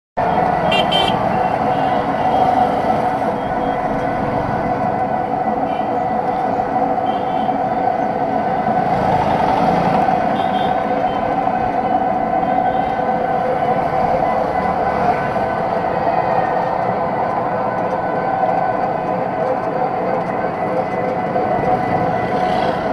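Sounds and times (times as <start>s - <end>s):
road and traffic noise: 0.2s - 22.9s.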